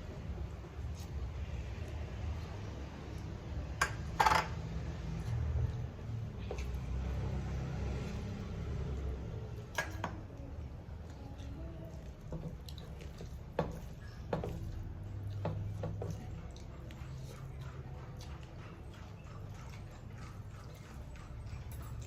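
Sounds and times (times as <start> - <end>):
wet chewing sounds: 0.0 - 22.0.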